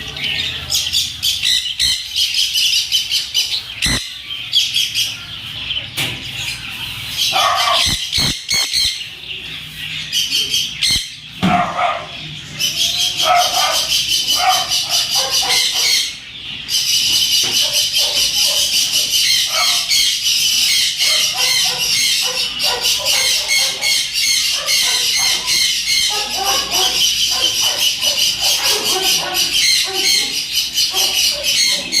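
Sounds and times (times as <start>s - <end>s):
caged birds chirping: 0.0s - 32.0s.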